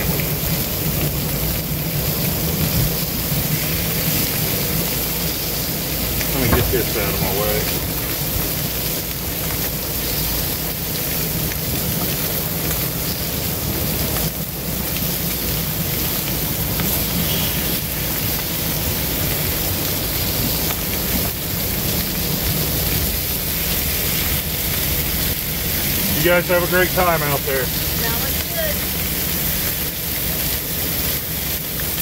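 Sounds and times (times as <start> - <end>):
chicken sizzling on a griddle: 0.0 - 32.0.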